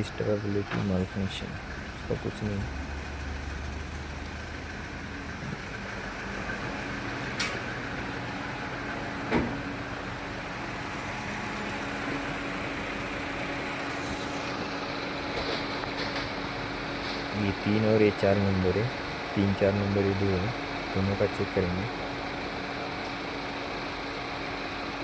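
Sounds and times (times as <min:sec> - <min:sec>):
car engine idling and misfiring: 0:00.0 - 0:25.0.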